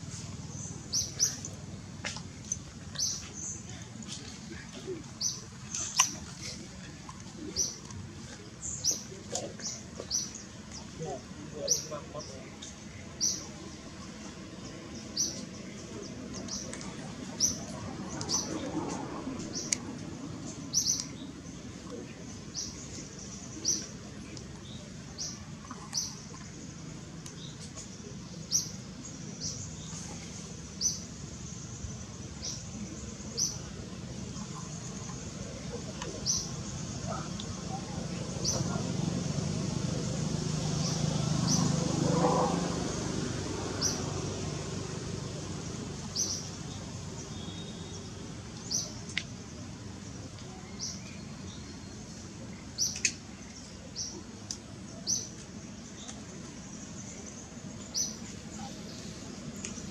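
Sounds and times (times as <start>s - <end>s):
low outdoor background: 0.0s - 59.9s.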